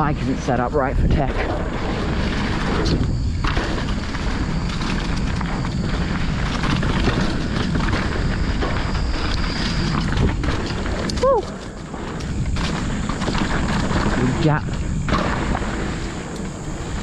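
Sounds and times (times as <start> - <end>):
bike knocking and rattling: 0.0 - 17.0
bike tyres rolling on dirt: 0.0 - 17.0
wind on microphone: 0.0 - 17.0.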